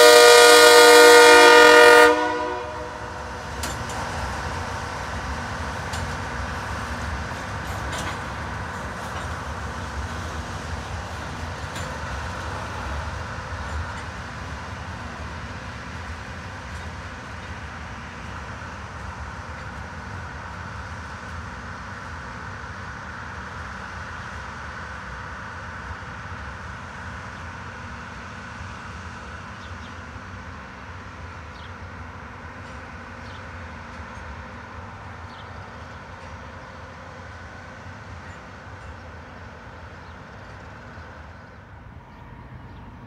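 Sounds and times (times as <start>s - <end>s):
train cars rolling on track: 0.0s - 43.0s.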